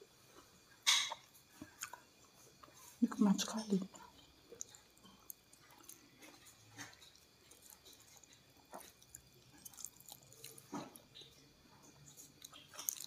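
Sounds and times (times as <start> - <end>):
soft chewing: 0.2 - 3.1, 3.7 - 13.0.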